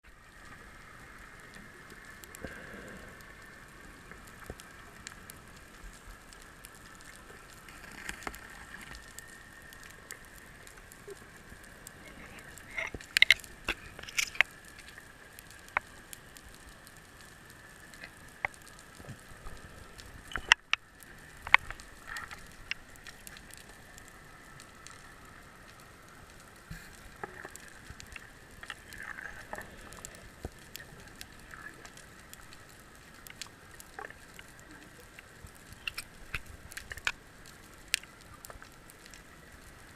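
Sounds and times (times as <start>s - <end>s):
sharp underwater clicks and crackles: 0.0s - 39.9s
steady underwater hum: 0.0s - 39.9s.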